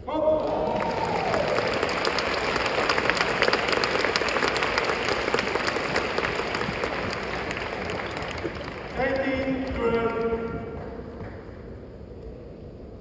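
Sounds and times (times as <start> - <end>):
audience applauding: 0.1 - 11.5.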